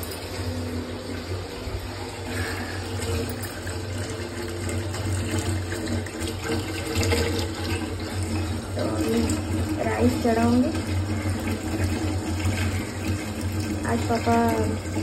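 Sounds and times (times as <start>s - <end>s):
tap water running into pot: 0.0s - 15.0s.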